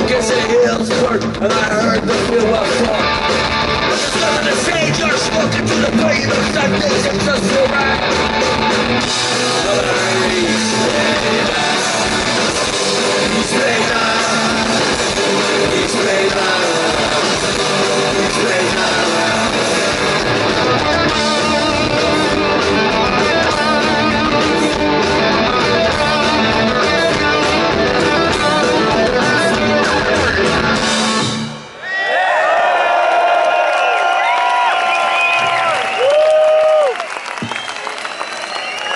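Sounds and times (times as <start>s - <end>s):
bass guitar: 0.0s - 31.8s
electric guitars: 0.0s - 31.8s
drums: 0.0s - 38.9s.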